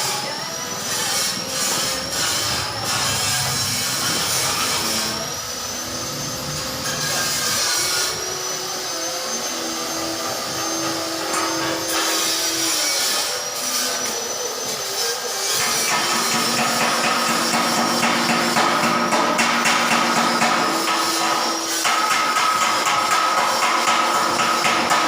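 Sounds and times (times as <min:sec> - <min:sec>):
power tool motor whining: 0:00.0 - 0:25.0.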